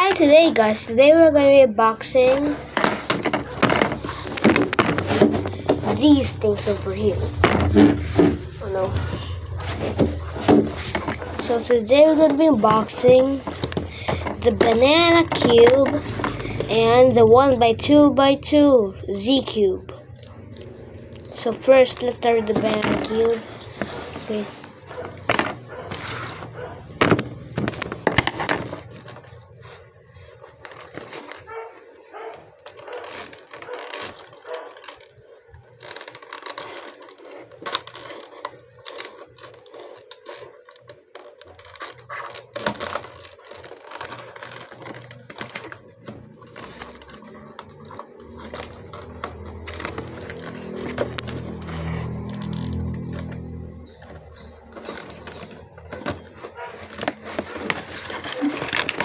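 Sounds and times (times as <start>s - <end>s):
packaging crackling: 0.0s - 59.0s.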